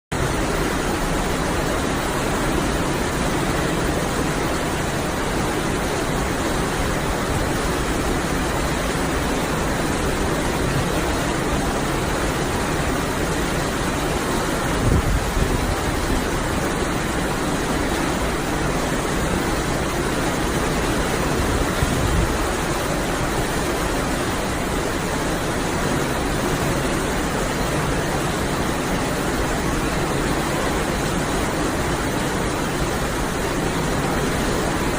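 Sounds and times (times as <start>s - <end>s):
boat engine at sea: 0.1s - 34.9s.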